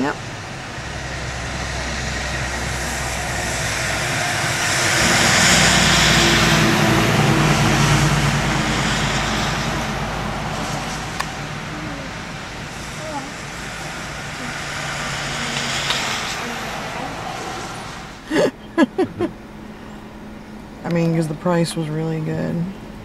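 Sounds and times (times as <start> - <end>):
rushing noise: 0.0 - 18.6
engine running: 0.0 - 23.0
low engine tones: 0.0 - 23.0.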